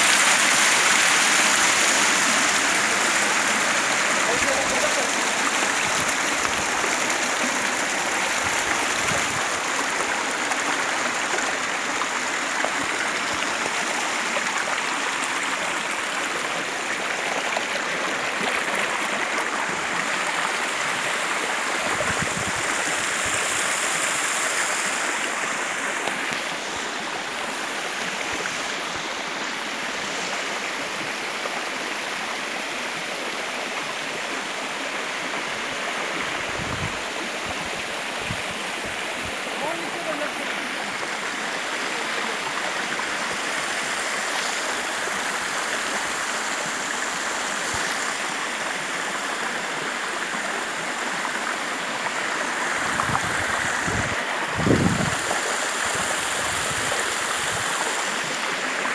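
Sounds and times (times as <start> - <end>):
waterfall rushing over rocks: 0.0 - 58.9.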